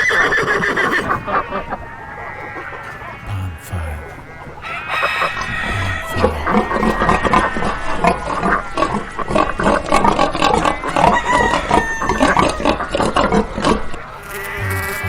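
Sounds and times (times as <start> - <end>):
pigs grunting and squealing: 0.0 - 15.0.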